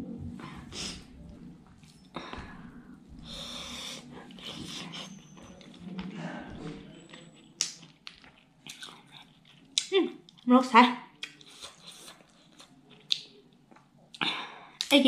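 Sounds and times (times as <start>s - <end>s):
wet chewing and mouth noises: 0.7s - 10.5s, 11.1s - 15.0s.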